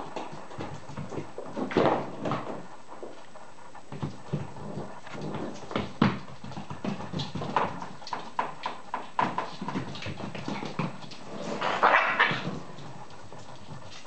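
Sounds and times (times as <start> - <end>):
puppies scampering on hard floor: 0.0 - 14.0.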